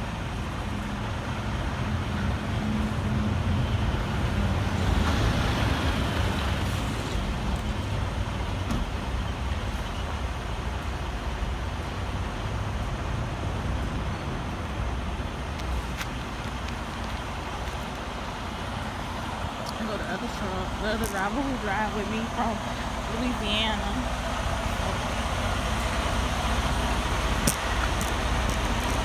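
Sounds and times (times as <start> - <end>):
road and traffic noise: 0.0 - 29.0
semi-truck engine rumble: 0.0 - 29.0.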